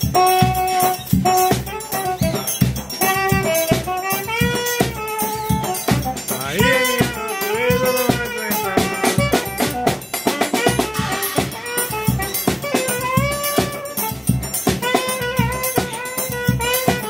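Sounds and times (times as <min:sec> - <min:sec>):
drum steady beat: 0:00.0 - 0:17.0
saxophone melody: 0:00.0 - 0:17.0.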